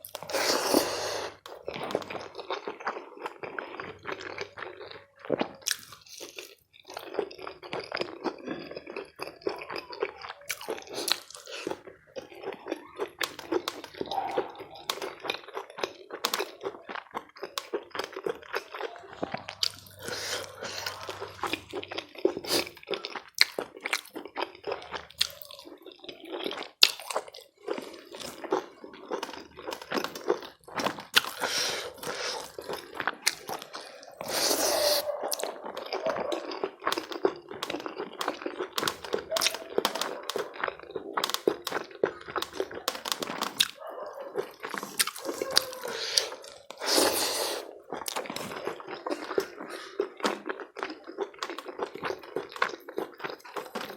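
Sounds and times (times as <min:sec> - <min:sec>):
wet chewing and lip smacks: 0:00.0 - 0:53.9.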